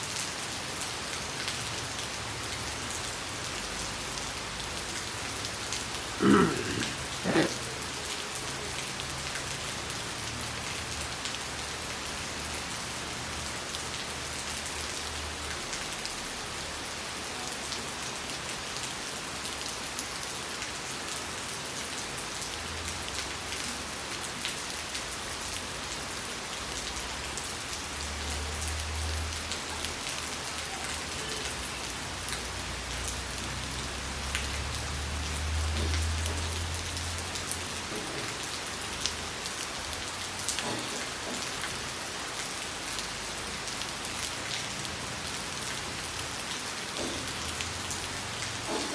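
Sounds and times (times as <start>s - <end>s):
rain falling on puddles: 0.0s - 48.9s.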